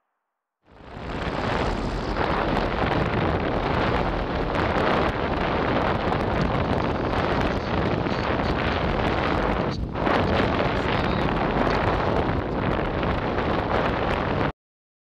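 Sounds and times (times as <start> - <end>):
wind buffeting microphone: 0.7 - 14.5.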